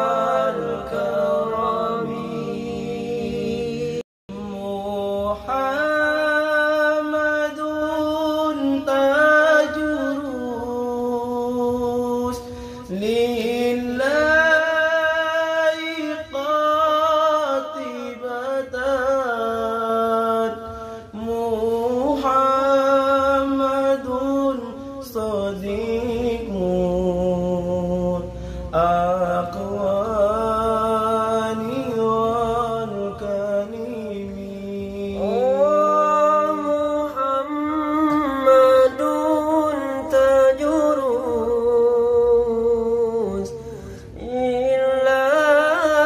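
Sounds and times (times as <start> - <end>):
man singing: 0.0 - 46.0.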